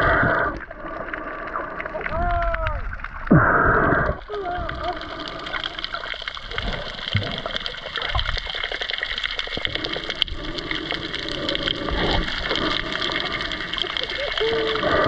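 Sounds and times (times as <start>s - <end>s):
water gurgling: 0.0s - 15.0s
underwater crackle of clicks: 0.1s - 15.0s.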